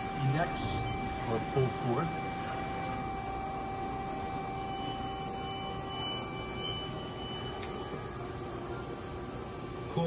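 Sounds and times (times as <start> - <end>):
machine hum: 0.0 - 10.0
machine whine: 0.0 - 10.0.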